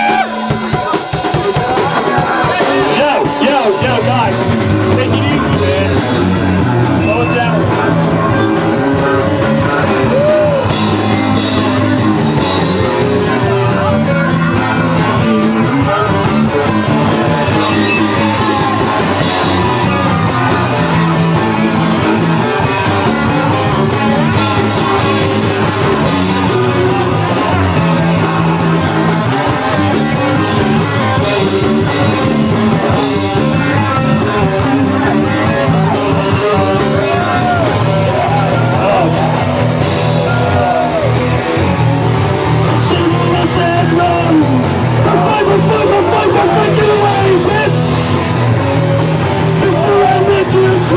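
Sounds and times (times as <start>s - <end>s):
drums: 0.0s - 50.9s
electric guitar: 0.0s - 50.9s.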